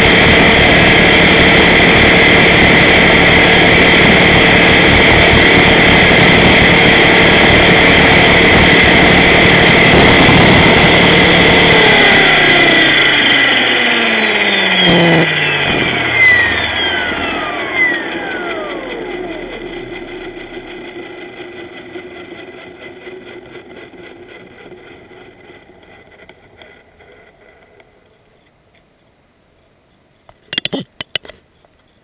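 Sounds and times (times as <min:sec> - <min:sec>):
rc helicopter motor whine: 0:00.0 - 0:28.4.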